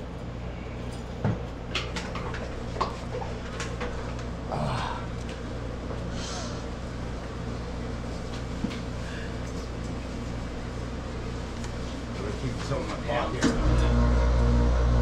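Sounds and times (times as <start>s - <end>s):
low mechanical engine hum: 0.0s - 15.0s.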